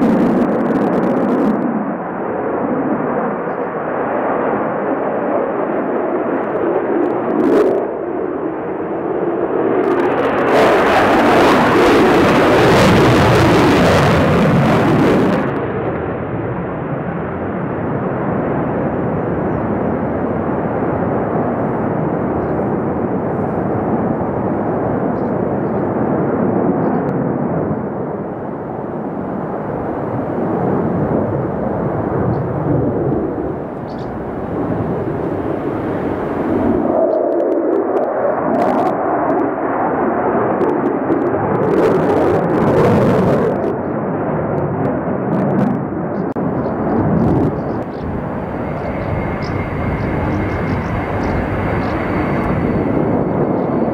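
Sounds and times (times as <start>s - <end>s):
fighter jet engine roar: 0.0s - 53.9s.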